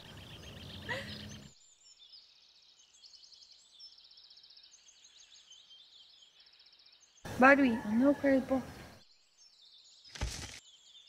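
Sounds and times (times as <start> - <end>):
small birds chirping and trilling: 0.0 - 11.0.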